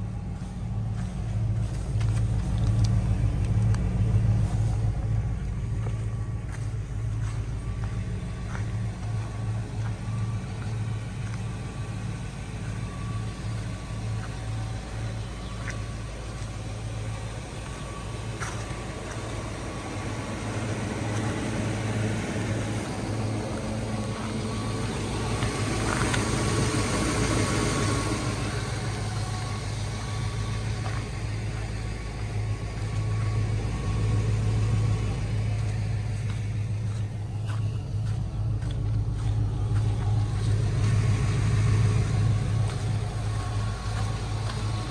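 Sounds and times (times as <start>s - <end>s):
pickup engine idling: 0.0s - 44.9s.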